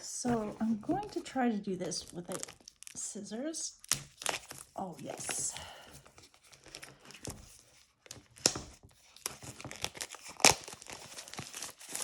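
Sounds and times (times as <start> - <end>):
plastic wrap crinkling: 0.1 - 12.0
sharp plastic crackles: 0.9 - 3.0, 3.7 - 12.0.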